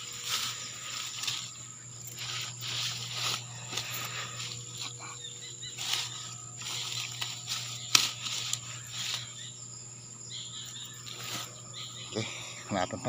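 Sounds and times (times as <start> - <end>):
insect drone: 0.0 - 13.0
rustling through grass and leaves: 0.0 - 13.0.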